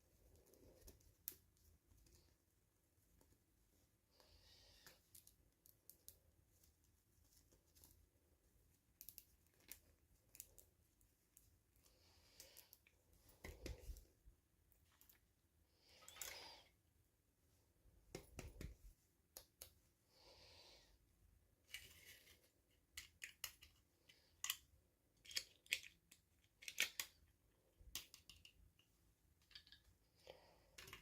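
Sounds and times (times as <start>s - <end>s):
soft rustle of packaging: 0.0s - 31.0s.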